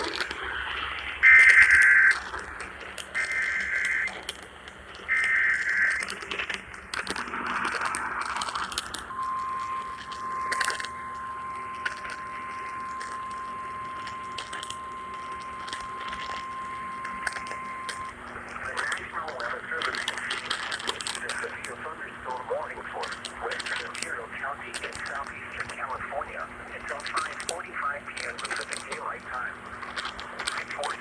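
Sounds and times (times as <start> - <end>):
steady alarm tone: 0.0 - 4.4, 5.0 - 31.0
noisy radio reception: 0.0 - 31.0
warbling data bursts: 0.0 - 31.0
radio clicks: 1.2 - 31.0.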